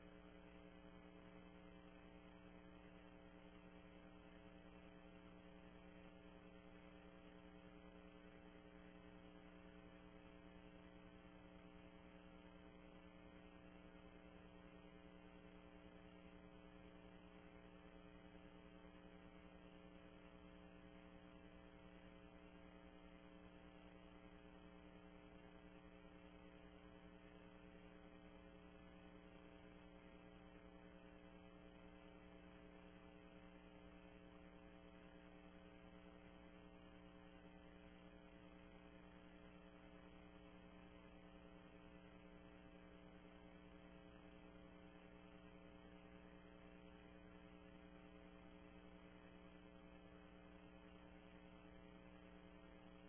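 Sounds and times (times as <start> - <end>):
faint electrical hum: 0.0 - 53.0.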